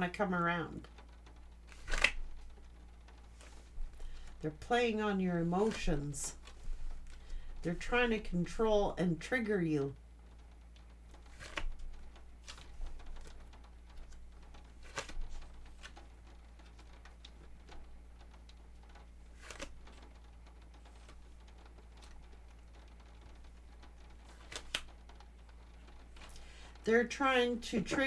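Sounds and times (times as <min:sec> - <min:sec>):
faint room hum: 0:00.0 - 0:28.0.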